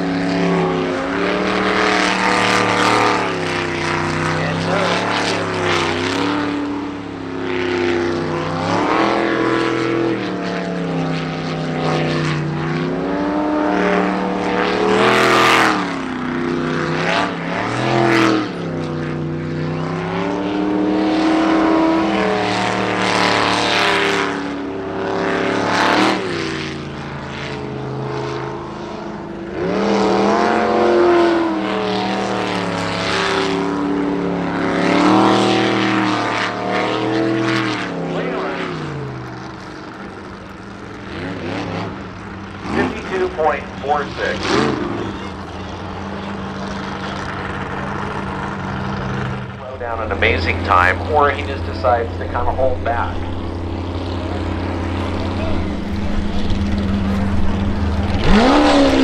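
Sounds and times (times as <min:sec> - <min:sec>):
boat engine revving: 0:00.0 - 0:59.0.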